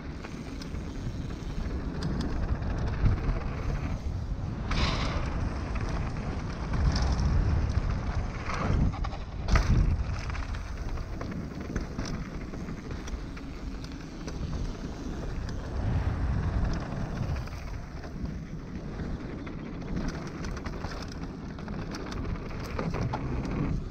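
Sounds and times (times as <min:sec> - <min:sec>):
bike tyres on dirt: 0:00.0 - 0:23.9
wind on camera microphone: 0:00.0 - 0:23.9.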